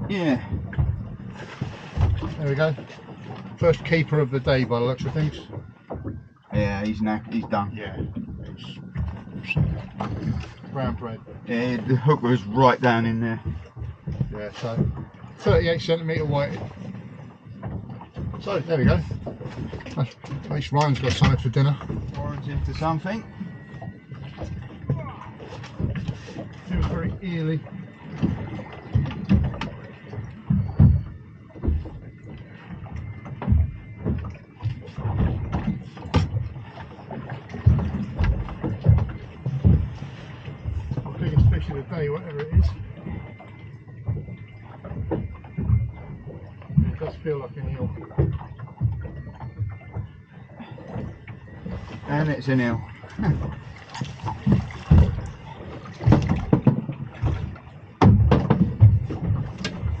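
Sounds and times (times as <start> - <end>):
water thumping against hull: 0.0 - 60.0
sharp knocks and clicks: 0.5 - 11.5, 12.6 - 50.2, 50.9 - 60.0.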